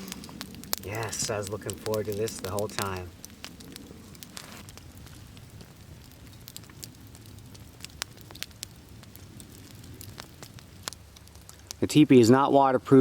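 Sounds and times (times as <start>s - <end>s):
sharp pops and snaps: 0.0s - 11.8s
wood fire crackling: 0.0s - 13.0s.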